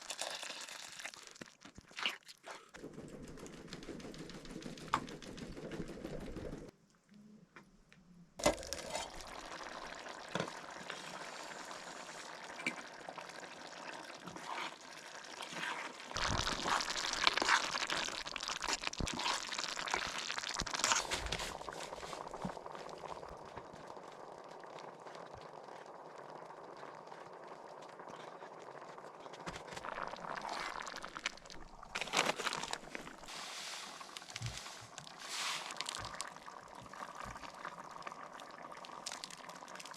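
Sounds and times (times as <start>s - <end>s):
liquid pouring: 0.0s - 1.9s, 8.4s - 39.9s
liquid bubbling in a pot: 0.0s - 4.2s, 8.4s - 39.9s.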